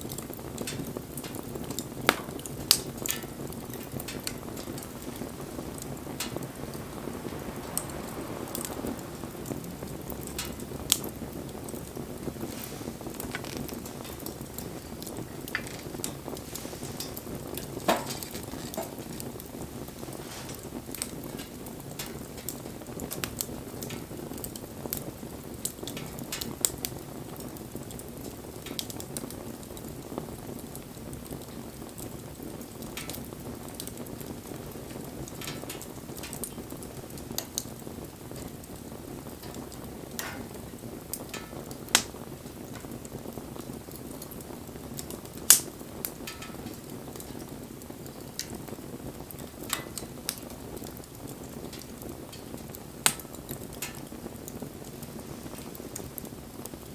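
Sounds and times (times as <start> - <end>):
campfire flames rushing: 0.0 - 56.9
fire crackling and popping: 0.0 - 56.9.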